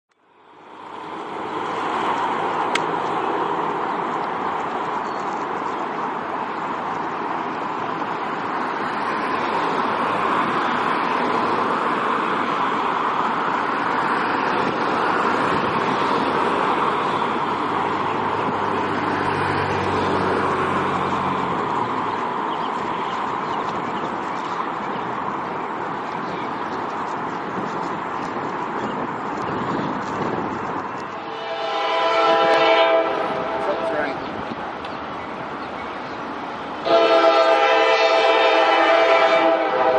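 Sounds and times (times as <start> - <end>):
city traffic: 0.1 - 39.9.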